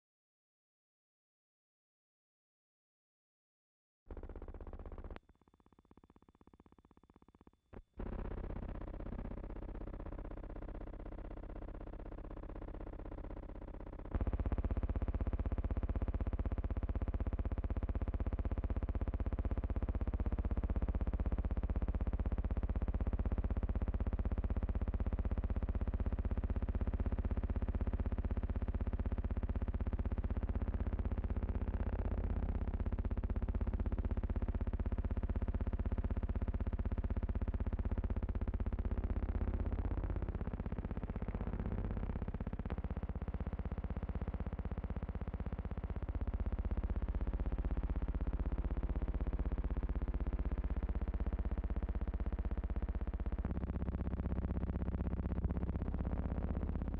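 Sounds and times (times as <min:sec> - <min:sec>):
electronic synthesizer drone: 0:11.0 - 0:56.9.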